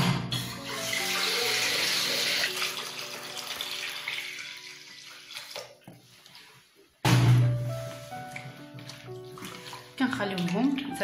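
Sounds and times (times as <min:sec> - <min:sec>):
water running into plastic basin: 0:00.3 - 0:11.0.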